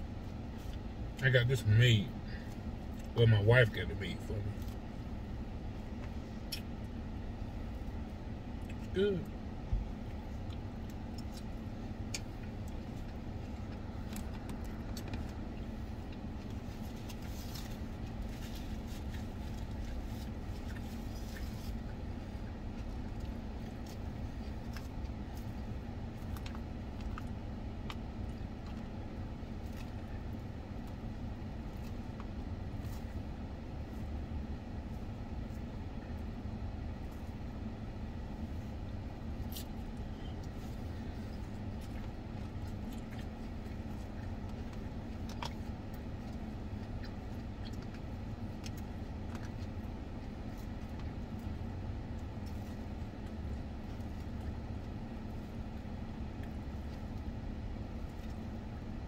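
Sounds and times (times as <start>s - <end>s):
chewing raw salad: 4.5s - 59.0s.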